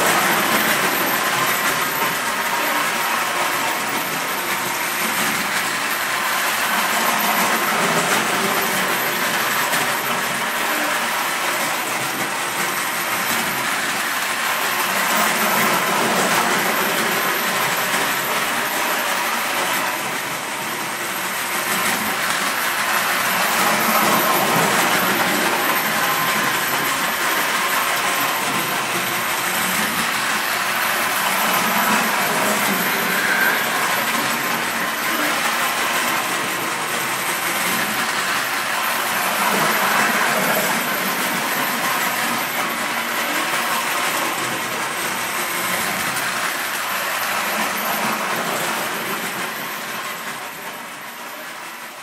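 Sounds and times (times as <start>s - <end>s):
toy train rattling on rails: 0.0s - 52.0s.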